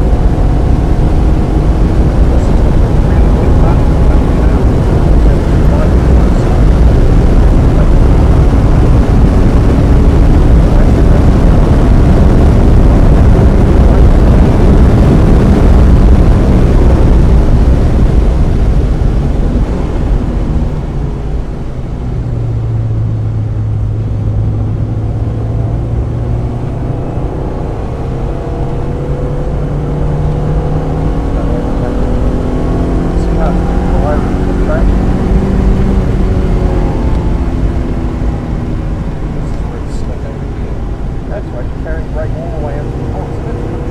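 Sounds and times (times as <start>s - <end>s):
car engine from inside: 0.0s - 43.9s.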